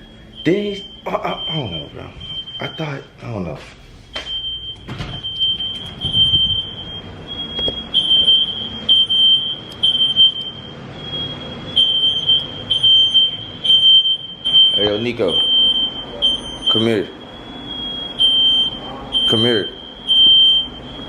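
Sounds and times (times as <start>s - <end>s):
shrill smoke alarm tone: 0.0s - 3.1s, 4.2s - 21.0s.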